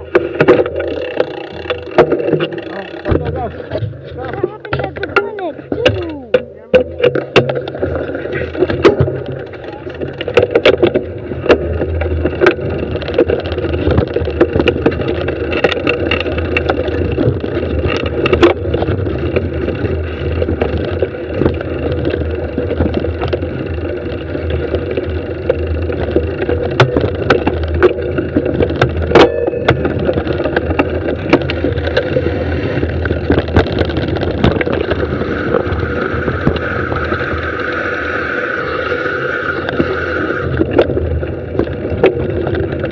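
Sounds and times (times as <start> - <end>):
rushing noise of bike descending: 0.0 - 6.2, 6.9 - 42.9
bike clicking and rattling: 0.0 - 42.9.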